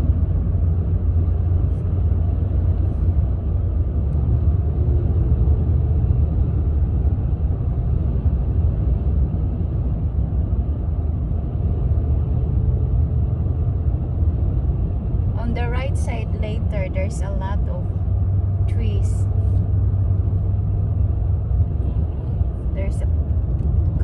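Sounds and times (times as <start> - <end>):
car driving rumble inside cabin: 0.0 - 24.0.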